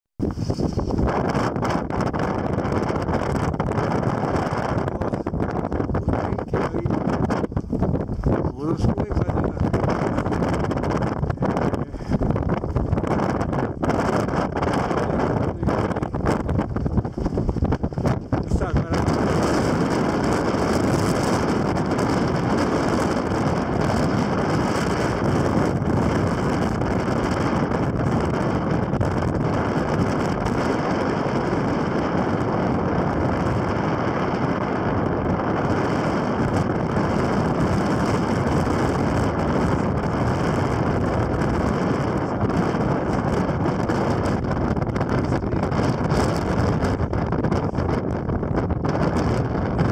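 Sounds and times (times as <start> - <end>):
strong wind across microphone: 0.2 - 49.9.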